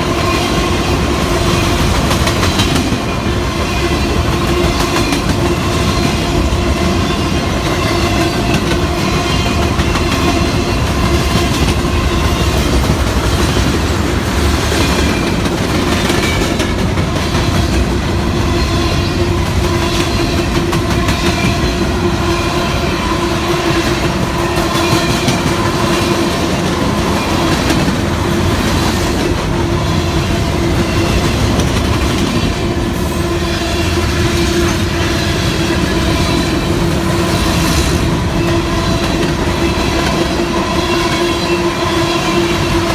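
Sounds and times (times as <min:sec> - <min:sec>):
train wheels clicking over rail joints: 0:00.0 - 0:42.9.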